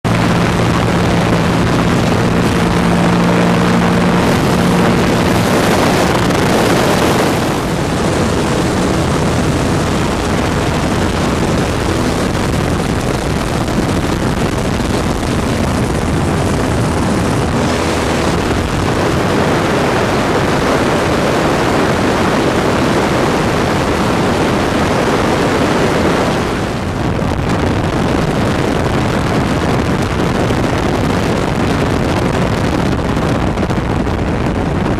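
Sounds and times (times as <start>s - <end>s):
propeller engine running: 0.0s - 34.9s
wind buffeting microphone: 0.0s - 34.9s.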